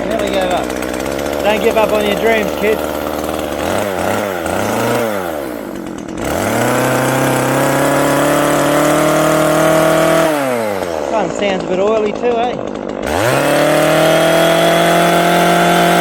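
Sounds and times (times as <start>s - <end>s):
two-stroke chainsaw revving: 0.0s - 16.0s.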